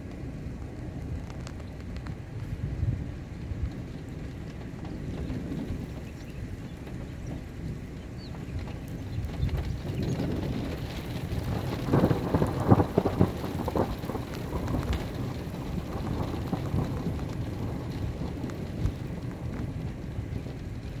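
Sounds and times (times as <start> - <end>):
crackling thunder: 0.0 - 21.0
steady rain: 0.0 - 21.0
thunder rumbling: 0.0 - 21.0.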